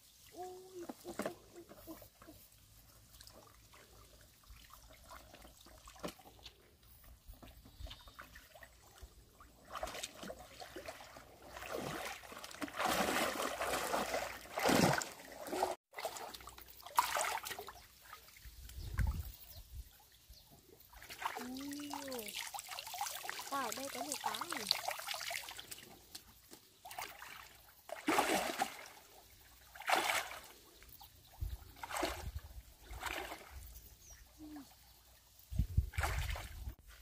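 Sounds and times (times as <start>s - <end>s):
water trickling and sloshing: 0.0s - 37.0s.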